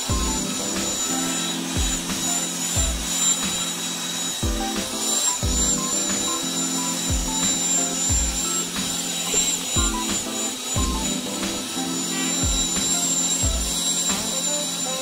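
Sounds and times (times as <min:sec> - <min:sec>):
music with beat and bass hits: 0:00.0 - 0:14.5
electric tiller motor whine: 0:00.0 - 0:15.0.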